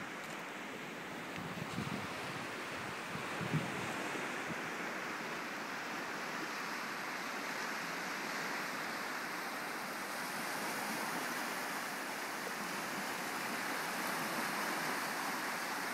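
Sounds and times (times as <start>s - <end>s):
waves washing on shore: 0.0s - 15.9s.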